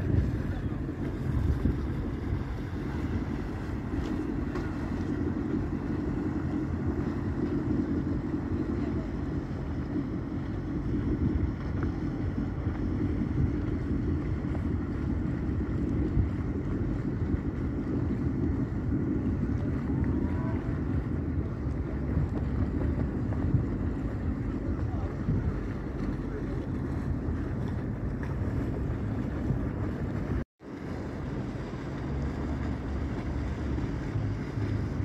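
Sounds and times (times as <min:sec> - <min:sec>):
motorboat engine running: 0:00.0 - 0:35.0
wind buffeting microphone: 0:00.0 - 0:35.0.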